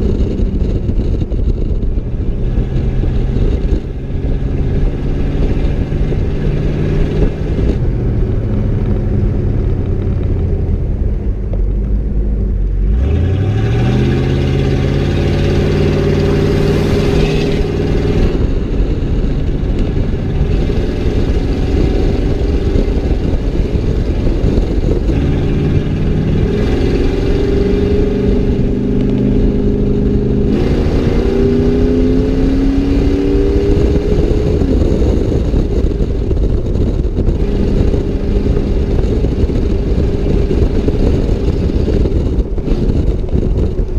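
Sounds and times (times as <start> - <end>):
loud vehicle exhaust accelerating: 0.0 - 43.9.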